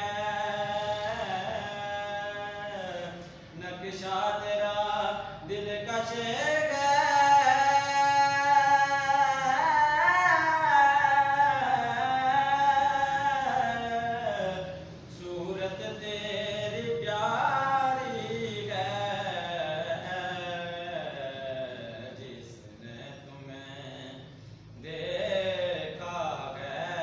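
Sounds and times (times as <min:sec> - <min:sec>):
man chanting: 0:00.0 - 0:27.0.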